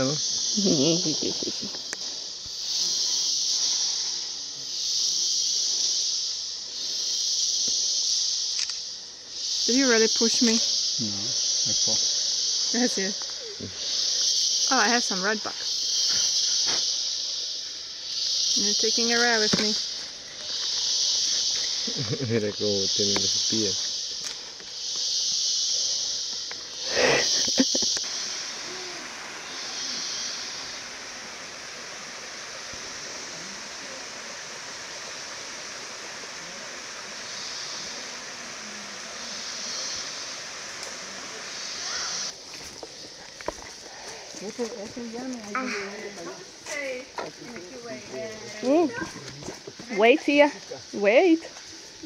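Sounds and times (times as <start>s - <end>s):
insects buzzing: 0.0s - 52.0s.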